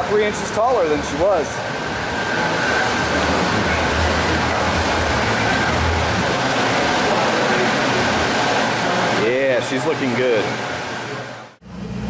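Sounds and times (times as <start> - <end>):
steady rumble and hiss: 0.0 - 12.0.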